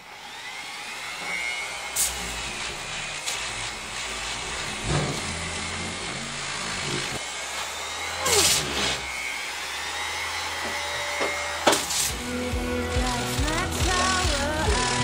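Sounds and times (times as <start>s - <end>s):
orbital sander whirring: 0.0s - 15.0s.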